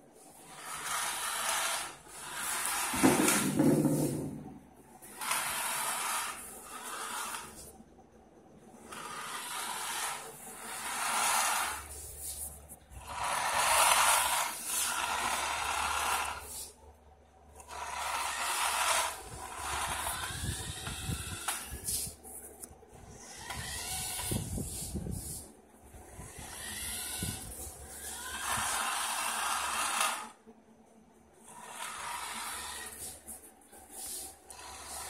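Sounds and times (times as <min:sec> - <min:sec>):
small gear motors whirring: 0:00.3 - 0:03.5, 0:05.0 - 0:07.7, 0:08.7 - 0:16.8, 0:17.6 - 0:30.4, 0:31.4 - 0:35.0.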